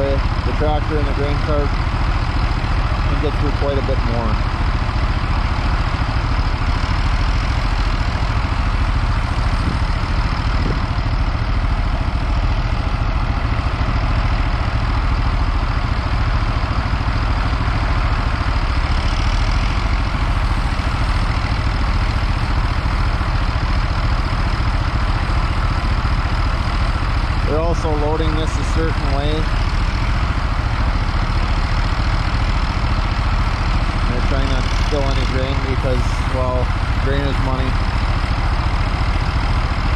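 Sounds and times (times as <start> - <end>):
grain auger unloading corn: 0.0 - 39.9
tractor running: 0.0 - 39.9.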